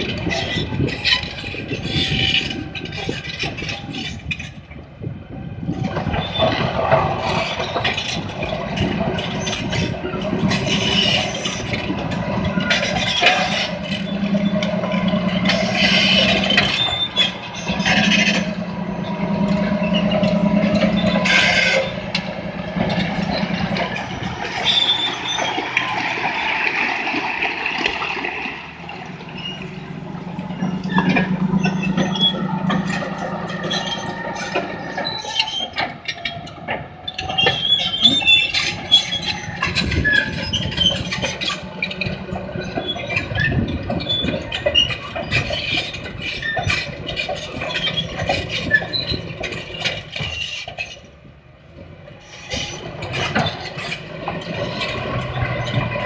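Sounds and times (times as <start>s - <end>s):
diesel engine working hard: 0.0s - 56.0s
steel tracks clanking and squealing: 0.0s - 56.0s.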